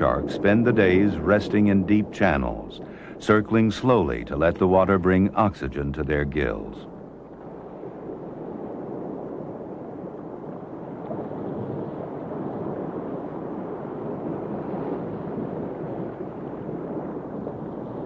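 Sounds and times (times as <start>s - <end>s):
muffled underwater rushing: 0.0s - 18.0s.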